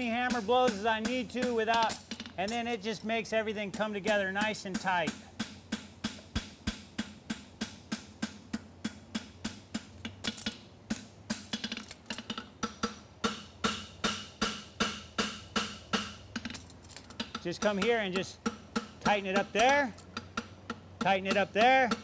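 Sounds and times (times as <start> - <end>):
hammer striking metal on anvil: 0.0 - 16.6, 17.2 - 22.0.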